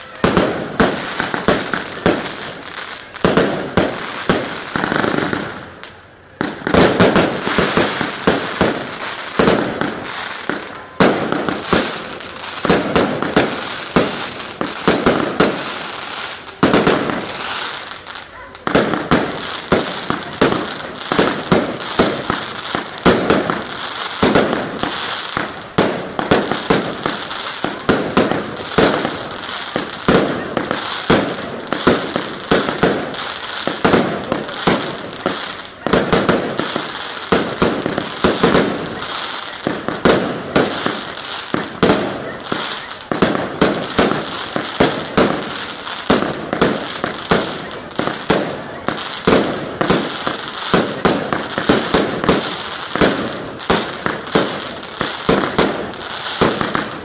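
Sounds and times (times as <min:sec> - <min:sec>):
fireworks bursts and bangs: 0:00.0 - 0:57.0.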